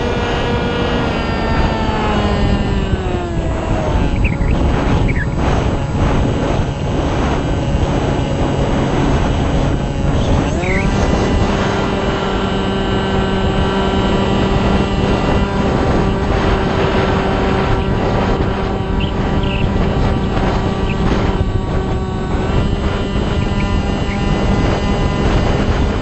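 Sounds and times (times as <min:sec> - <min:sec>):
model plane motor and propeller: 0:00.0 - 0:26.0
wind rush and buffeting: 0:00.0 - 0:26.0.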